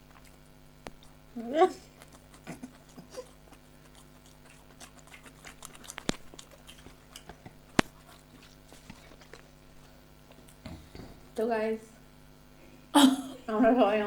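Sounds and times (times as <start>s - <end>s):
person chewing food: 0.0s - 11.3s.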